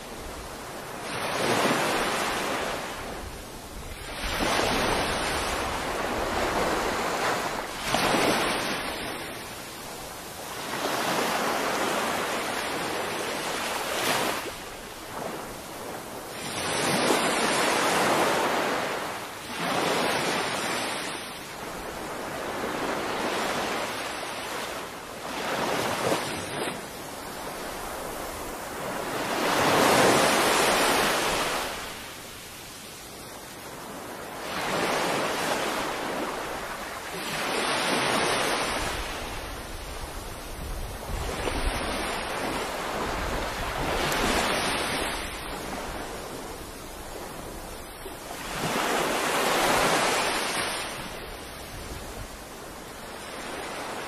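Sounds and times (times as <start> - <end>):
small waves breaking on sand: 0.0 - 54.0.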